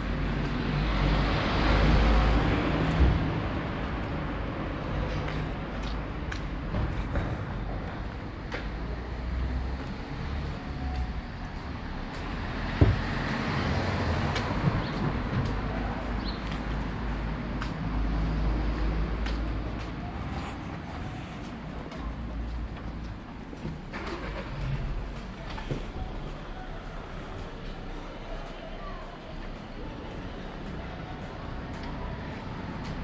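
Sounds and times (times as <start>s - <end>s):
low traffic rumble: 0.0s - 33.0s
vehicles passing: 0.0s - 33.0s.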